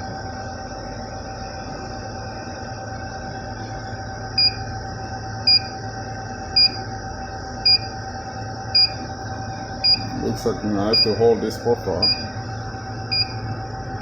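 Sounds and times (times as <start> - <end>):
fan hum: 0.0 - 14.0.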